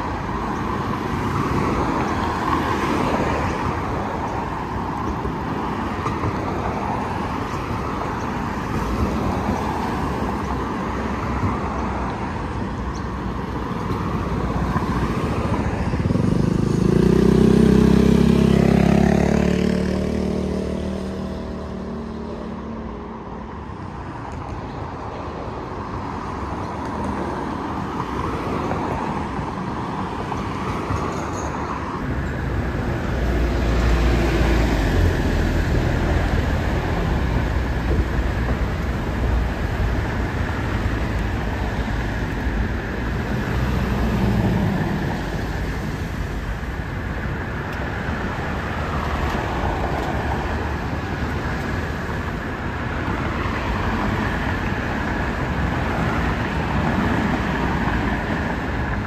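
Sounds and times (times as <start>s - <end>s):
buses and cars passing: 0.0s - 59.0s.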